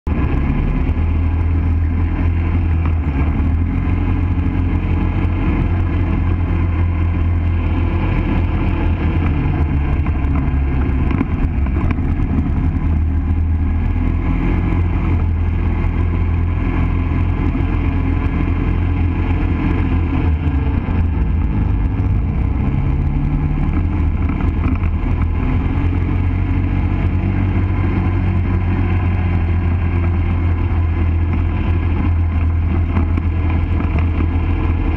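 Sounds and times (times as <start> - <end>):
atv engine drone: 0.0 - 34.9.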